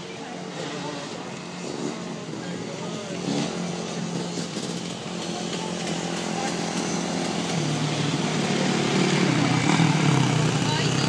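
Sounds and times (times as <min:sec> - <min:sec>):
dirt bike engines running: 0:00.0 - 0:11.0.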